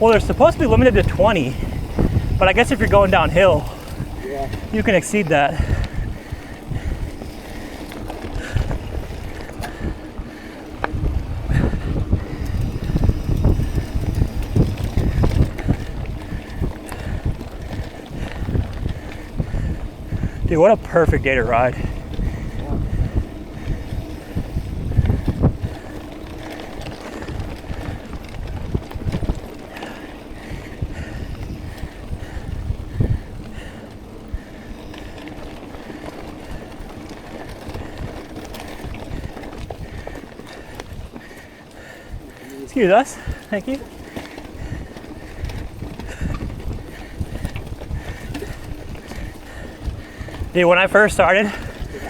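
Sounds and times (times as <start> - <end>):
bike tyres rolling on dirt: 0.0 - 52.0
wind buffeting microphone: 0.0 - 52.0.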